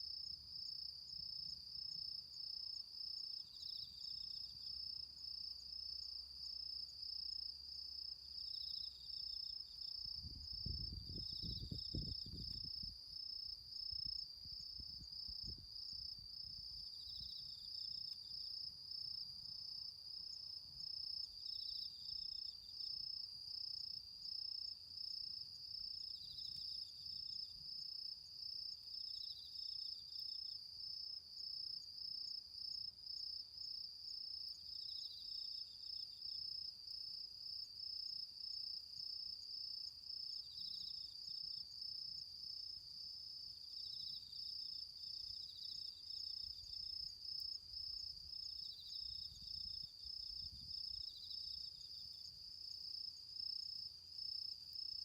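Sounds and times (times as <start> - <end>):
cricket pulsing trill: 0.0 - 55.0
insect short chirp: 0.0 - 55.0.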